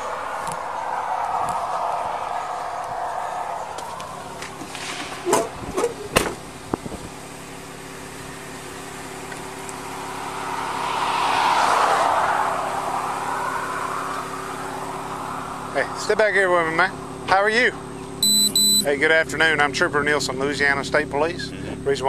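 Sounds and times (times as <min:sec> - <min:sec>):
vehicle passing: 0:00.0 - 0:18.2.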